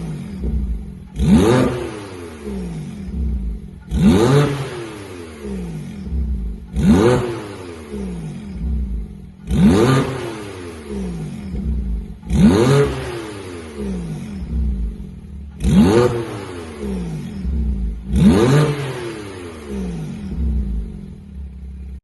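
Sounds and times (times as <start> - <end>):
car engine revving from idle: 0.0 - 22.0.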